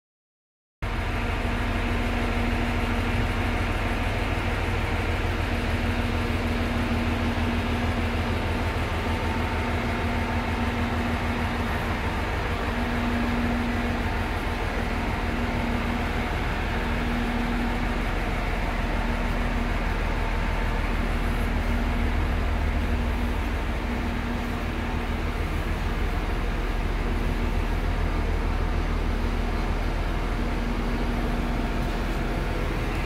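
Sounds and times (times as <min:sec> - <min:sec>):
idling electric train hum: 0:00.8 - 0:33.0.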